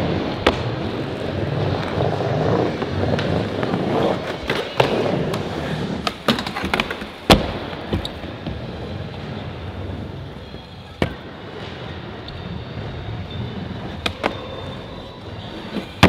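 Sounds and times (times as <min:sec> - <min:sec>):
skateboard clacks: 0:00.0 - 0:16.0
skateboard wheels rolling on wood: 0:00.0 - 0:16.0.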